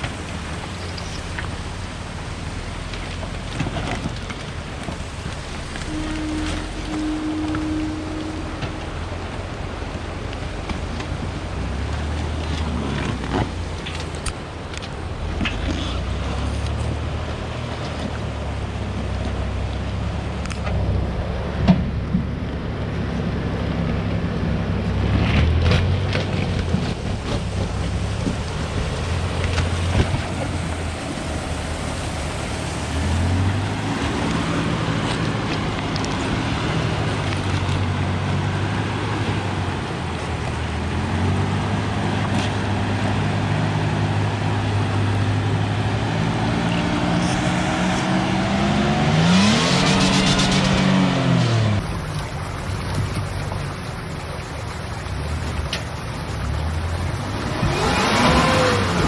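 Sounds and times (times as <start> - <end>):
truck engine revving: 0.0 - 19.5, 23.5 - 52.4, 56.7 - 59.0.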